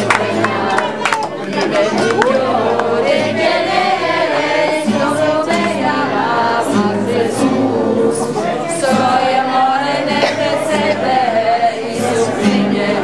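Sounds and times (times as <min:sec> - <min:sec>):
children and adults singing: 0:00.0 - 0:13.0.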